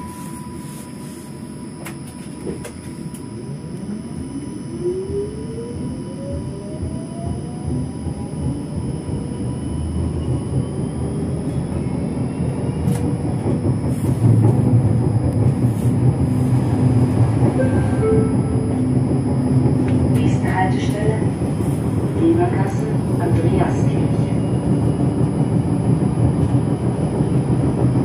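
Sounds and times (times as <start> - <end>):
traction drive whine: 0.0 - 28.0
tram wheels rumbling on rail: 0.0 - 28.0.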